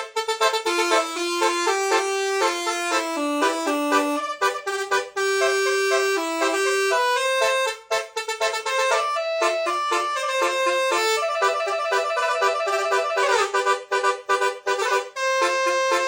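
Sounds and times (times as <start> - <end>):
musical vehicle horn melody: 0.0 - 16.0.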